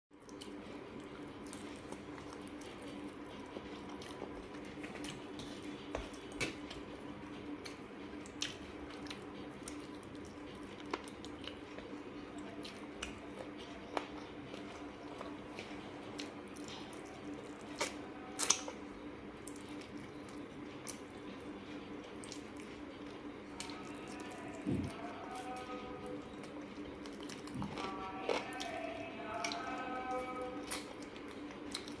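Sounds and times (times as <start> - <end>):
steady low hum: 0.1 - 32.0
wet squishy chewing: 0.2 - 32.0.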